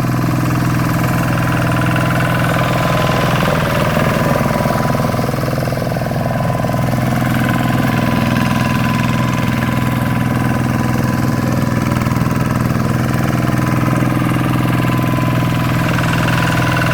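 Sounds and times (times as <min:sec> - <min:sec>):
diesel engine chugging: 0:00.0 - 0:16.9.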